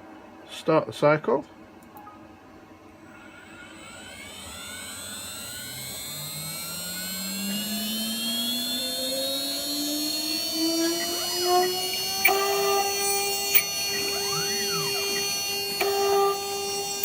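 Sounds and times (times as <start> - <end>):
spindle motor whine rising: 2.8 - 17.0.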